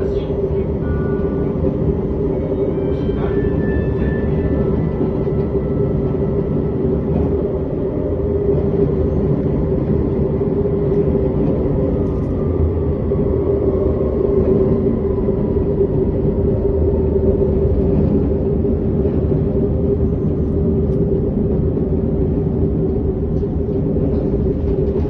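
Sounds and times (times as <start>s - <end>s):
tram motor rumble and hum: 0.0s - 25.0s.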